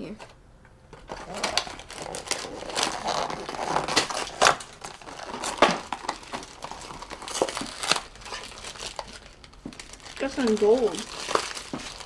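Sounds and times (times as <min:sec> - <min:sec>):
packaging crinkling and rustling: 0:00.9 - 0:12.0.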